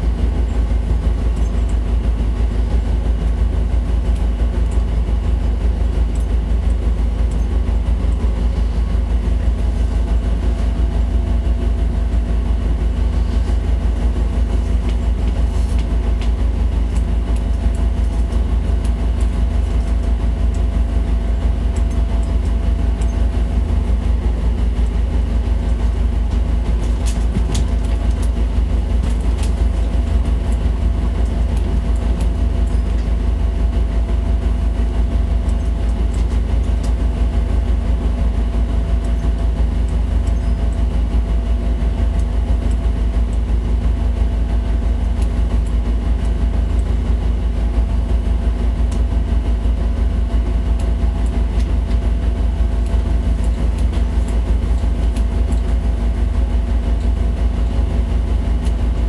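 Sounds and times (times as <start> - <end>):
diesel boat engine rumbling: 0.0 - 59.0.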